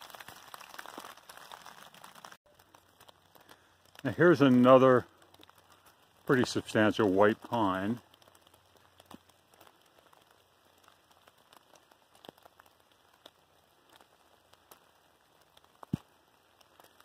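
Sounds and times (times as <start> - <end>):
faint ticks and crackles: 0.0 - 17.0.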